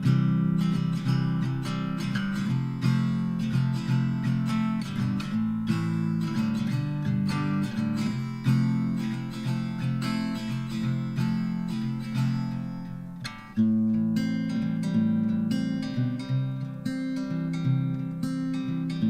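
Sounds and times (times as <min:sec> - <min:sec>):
acoustic folk guitar music: 0:00.0 - 0:19.0.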